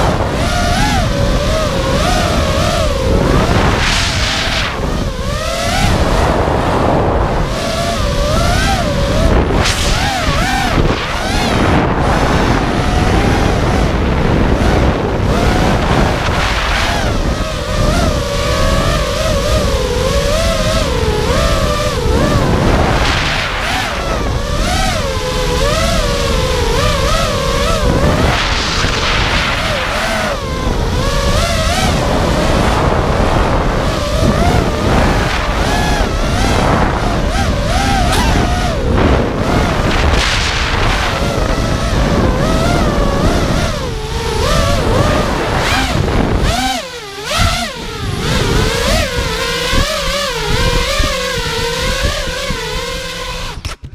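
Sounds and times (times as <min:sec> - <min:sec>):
drone motors whining: 0:00.0 - 0:53.9.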